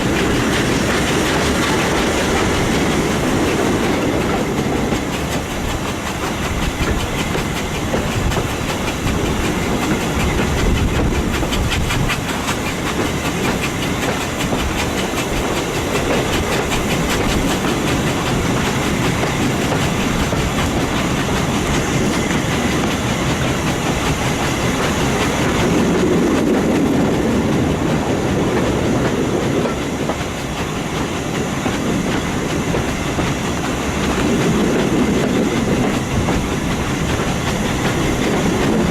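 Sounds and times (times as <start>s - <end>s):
train rumble: 0.0s - 38.9s
train wheels clicking over rail joints: 0.0s - 38.9s.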